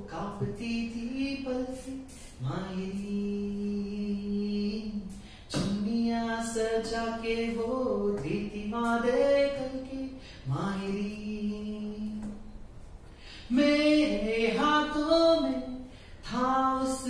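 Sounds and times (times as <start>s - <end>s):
man singing unaccompanied: 0.0s - 12.6s, 13.5s - 17.0s.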